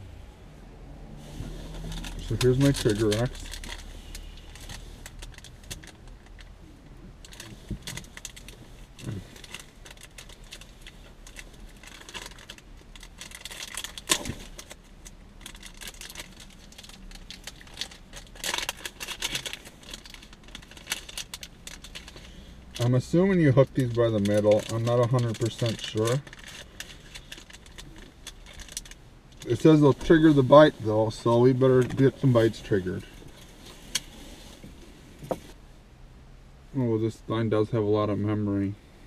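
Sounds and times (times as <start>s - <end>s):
low steady hum: 0.0s - 39.0s
plastic packaging crinkling: 1.7s - 6.6s, 7.2s - 34.1s.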